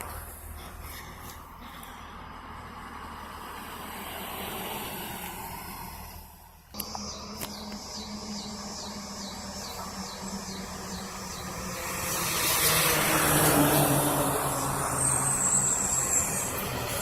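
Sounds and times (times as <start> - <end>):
vehicle driving past: 0.0 - 17.0
vehicle engine idling: 0.0 - 17.0.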